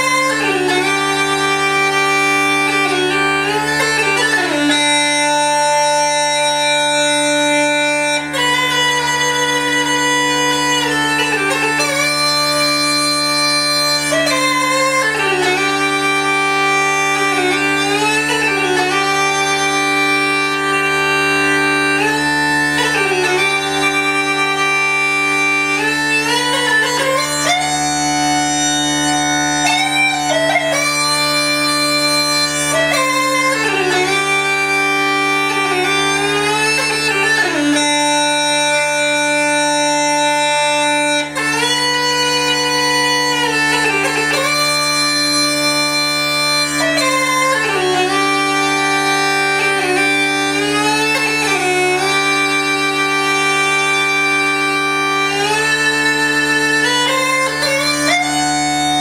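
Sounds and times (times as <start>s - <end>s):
bagpipe chanter melody: 0.0s - 59.0s
bagpipe drones: 0.0s - 59.0s.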